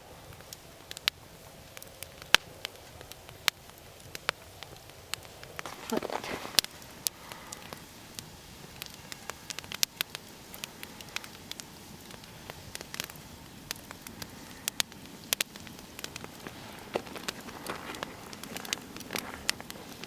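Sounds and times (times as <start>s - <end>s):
low steady hiss: 0.0s - 20.0s
campfire crackling and popping: 0.2s - 20.0s.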